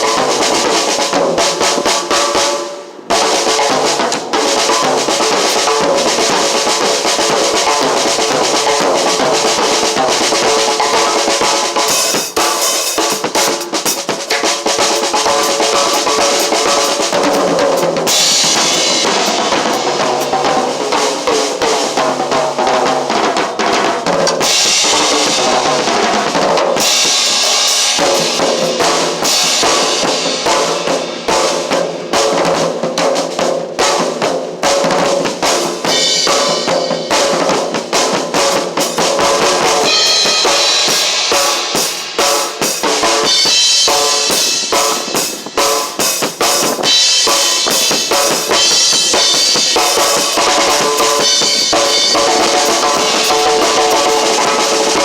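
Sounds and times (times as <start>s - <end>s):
drum kit groove: 0.0s - 55.0s.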